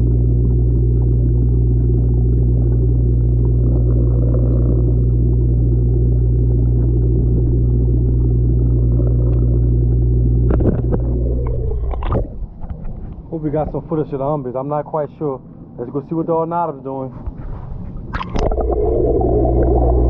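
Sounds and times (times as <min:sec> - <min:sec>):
low electrical hum of pond pump: 0:00.0 - 0:20.0.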